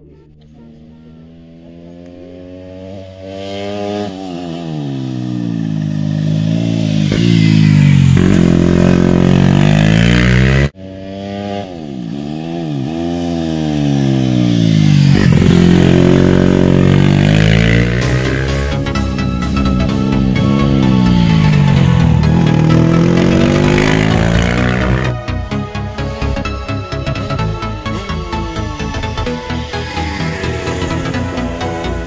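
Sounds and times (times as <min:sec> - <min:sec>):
racing motorcycle engine: 0:00.0 - 0:32.0
second motorcycle passing: 0:00.2 - 0:25.3, 0:27.8 - 0:32.0.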